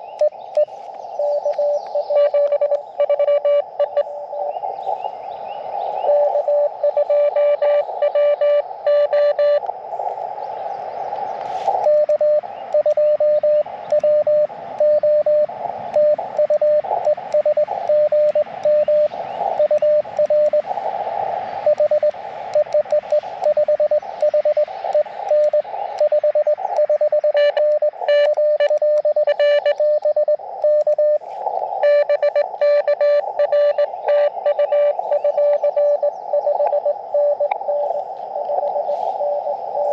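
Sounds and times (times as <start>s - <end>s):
morse code beeps: 0.0s - 4.5s, 6.0s - 9.7s, 11.7s - 20.7s, 21.6s - 39.9s
radio band noise hiss: 0.0s - 39.9s.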